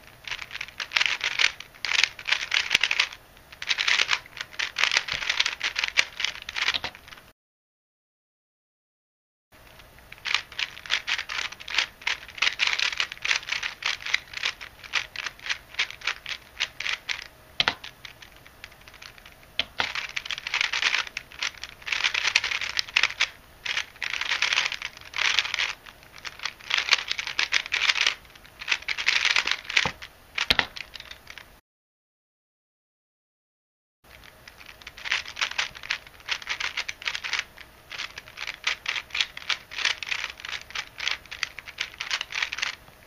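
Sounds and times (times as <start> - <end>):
speed cube plastic clicking: 0.2 - 7.0, 9.9 - 31.4, 34.1 - 42.8.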